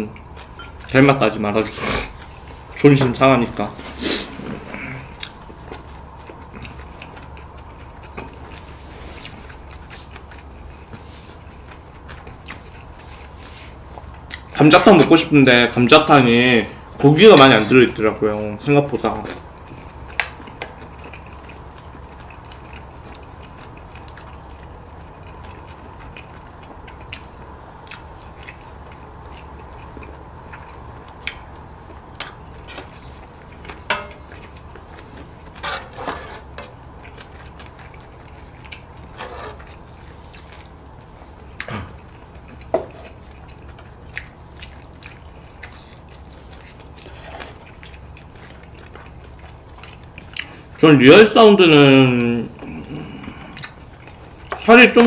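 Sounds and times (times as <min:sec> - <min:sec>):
steady low hum: 0:00.0 - 0:55.0
quiet chewing: 0:03.8 - 0:14.6, 0:19.0 - 0:50.8, 0:52.5 - 0:54.7.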